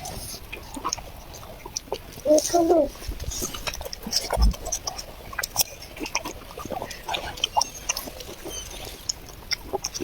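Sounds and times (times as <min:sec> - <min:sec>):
child chewing with wet smacking: 0:00.0 - 0:10.0.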